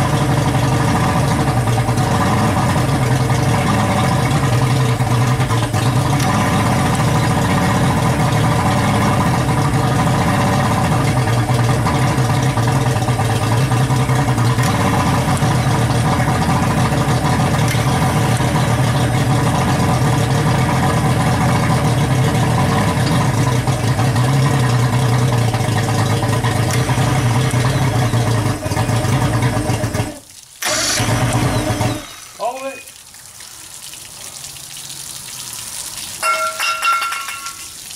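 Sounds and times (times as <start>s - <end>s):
outboard engine running: 0.0s - 32.5s.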